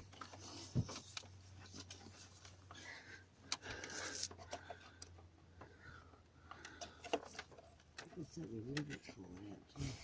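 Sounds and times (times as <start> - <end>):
small clicks and rustles: 0.0 - 9.6.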